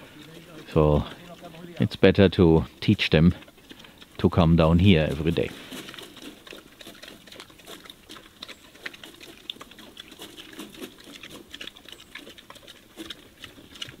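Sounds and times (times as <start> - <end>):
pigs chewing feed: 0.0 - 14.0.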